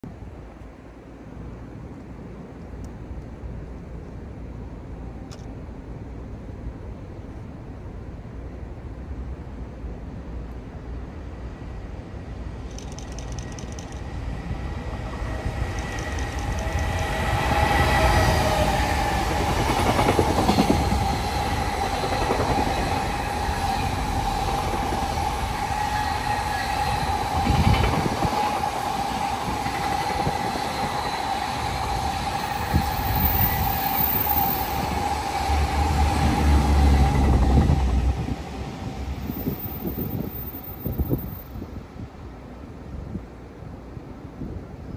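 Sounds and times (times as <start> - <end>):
freight train passing: 0.1 - 44.9.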